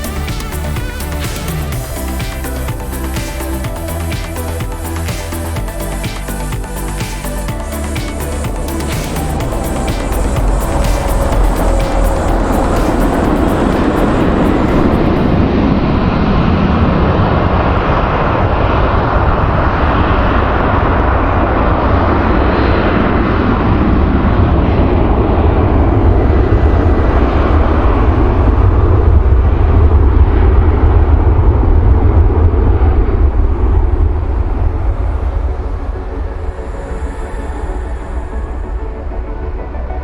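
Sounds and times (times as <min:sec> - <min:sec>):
jet engines rumbling: 0:00.0 - 0:40.0.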